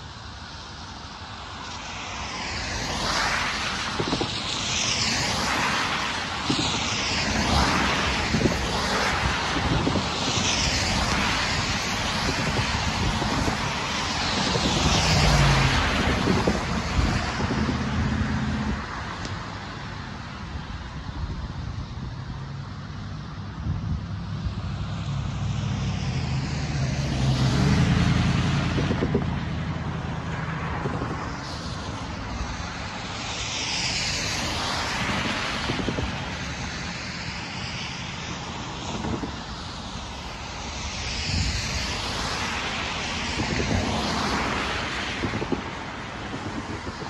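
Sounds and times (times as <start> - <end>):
tyres hissing on wet road: 0.0 - 47.0
vehicle engine rumble: 9.3 - 47.0.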